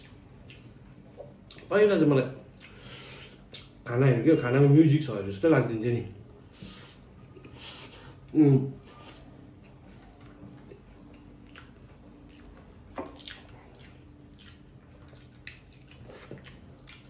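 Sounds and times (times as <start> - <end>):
person chewing noodles: 0.0 - 1.7, 2.5 - 3.8, 6.3 - 17.0.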